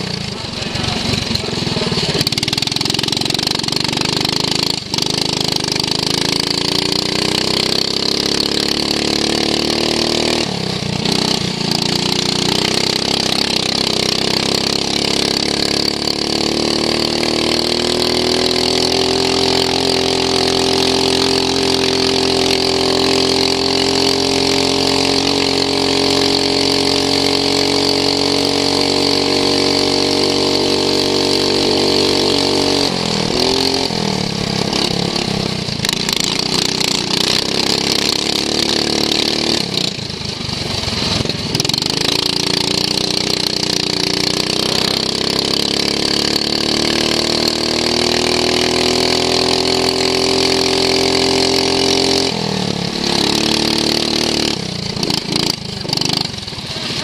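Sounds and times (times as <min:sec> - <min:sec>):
racing lawn mower engine: 0:00.0 - 0:57.0.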